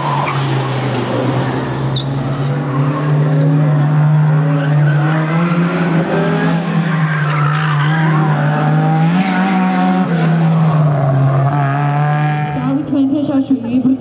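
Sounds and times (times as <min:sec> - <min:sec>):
tires squealing: 0:00.0 - 0:12.8
race car engines revving: 0:00.0 - 0:14.0.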